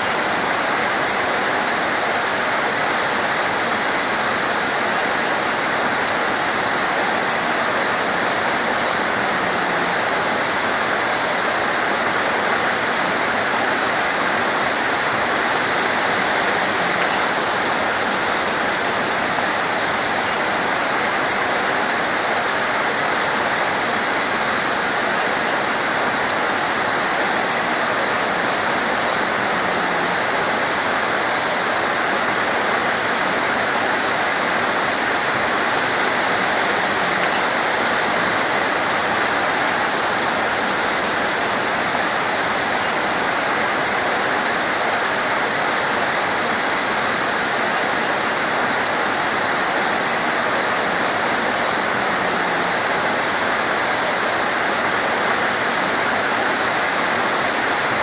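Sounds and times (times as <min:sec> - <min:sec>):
heavy torrential rain: 0:00.0 - 0:58.0.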